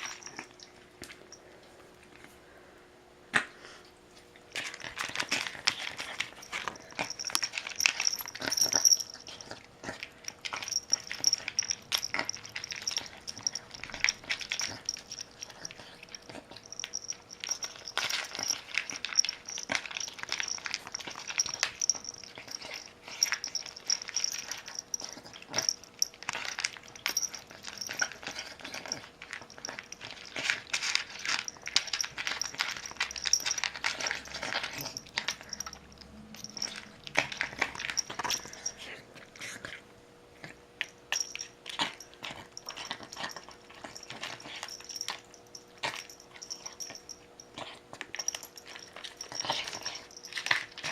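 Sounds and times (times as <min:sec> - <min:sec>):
dog eating from bowl: 0:00.0 - 0:02.3, 0:04.2 - 0:50.9.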